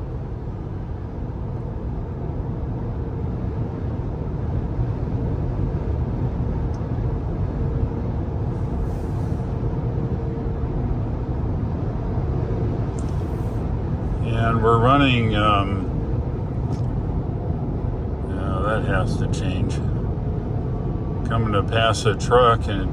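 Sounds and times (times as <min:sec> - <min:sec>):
faint steady whine: 0:00.0 - 0:22.9.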